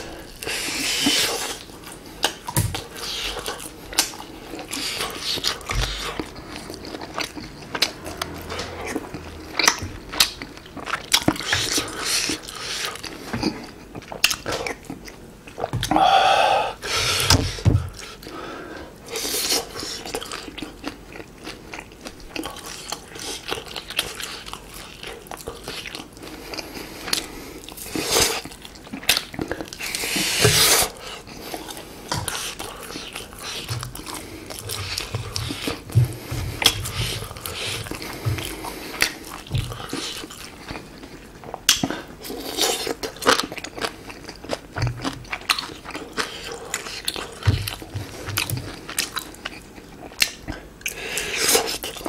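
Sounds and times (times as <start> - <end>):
chewing and mouth clicks: 0.2 - 16.0, 19.1 - 52.0.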